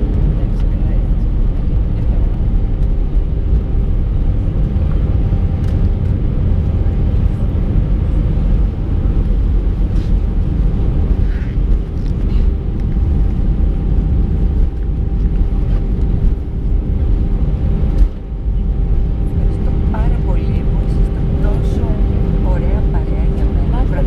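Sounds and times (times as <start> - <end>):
aircraft cabin rumble: 0.0 - 24.0
steady hum: 0.0 - 24.0.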